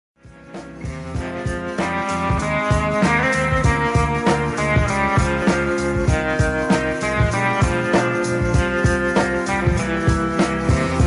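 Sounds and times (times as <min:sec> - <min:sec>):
instrumental music with steady beat: 0:00.2 - 0:11.0.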